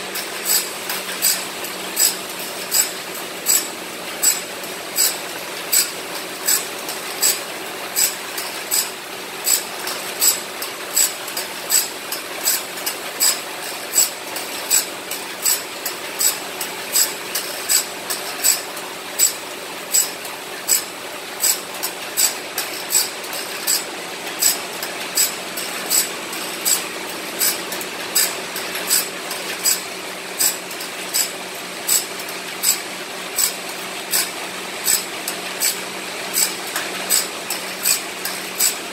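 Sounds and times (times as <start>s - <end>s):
grinding wheel rasping on teeth: 0.0s - 38.8s.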